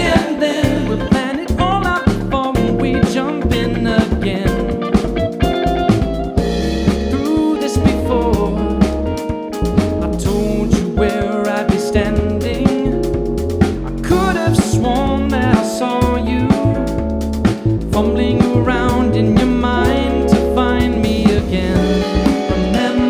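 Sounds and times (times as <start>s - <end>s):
drum kit: 0.0s - 23.0s
funk band playing live: 0.0s - 23.0s
guitar: 0.0s - 23.0s.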